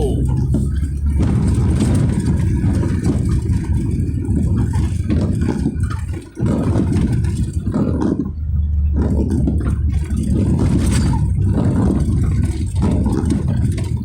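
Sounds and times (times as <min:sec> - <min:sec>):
car driving with low rumble: 0:00.0 - 0:14.0.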